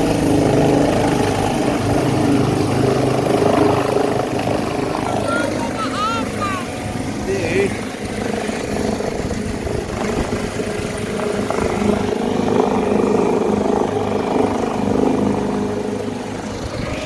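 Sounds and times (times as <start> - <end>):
helicopter rotor and engine: 0.0 - 17.0.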